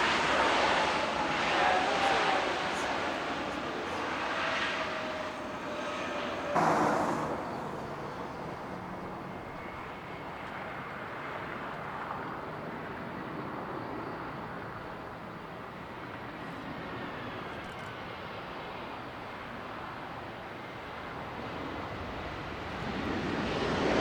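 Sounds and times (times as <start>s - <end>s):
jet engines on takeoff: 0.0s - 24.0s.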